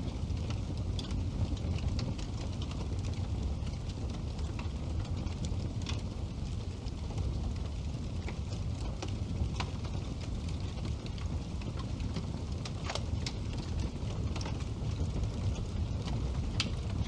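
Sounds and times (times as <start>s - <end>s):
fire crackles and pops: 0.0s - 17.0s
fire rumbling: 0.0s - 17.0s.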